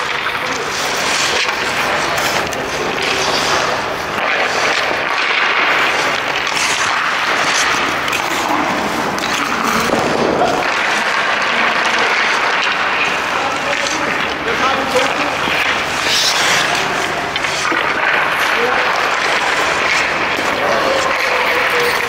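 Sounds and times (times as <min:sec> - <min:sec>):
hockey sticks cracking: 0:00.0 - 0:22.0
skates scraping on ice: 0:00.0 - 0:22.0.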